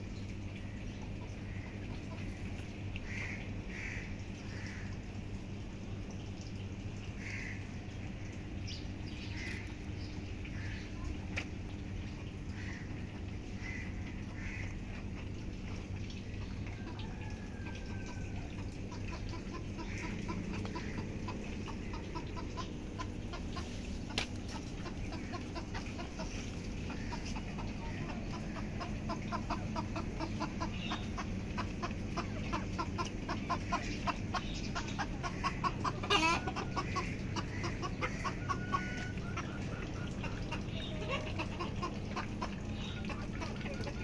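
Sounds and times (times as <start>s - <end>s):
chickens clucking: 0.0s - 5.6s, 7.1s - 44.0s.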